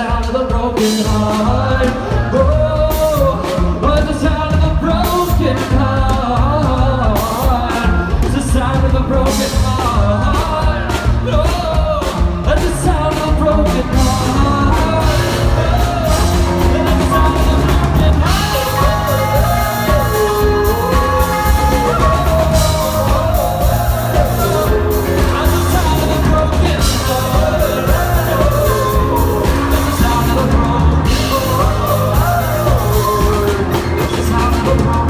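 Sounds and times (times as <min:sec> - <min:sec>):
pop-rock band playing: 0:00.0 - 0:35.0
wordless sung melody: 0:00.0 - 0:35.0.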